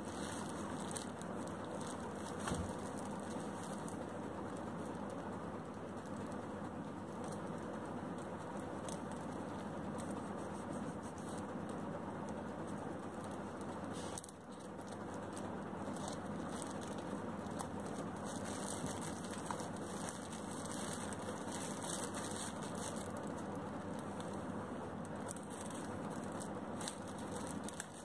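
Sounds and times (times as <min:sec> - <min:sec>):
plastic wrapping crinkling: 0:00.0 - 0:05.3, 0:05.9 - 0:28.0
steady background noise: 0:00.0 - 0:28.0.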